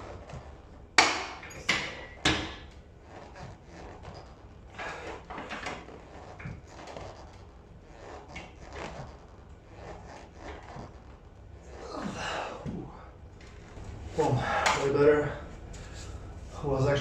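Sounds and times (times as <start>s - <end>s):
exercise machine scraping and knocking: 0.0s - 17.0s.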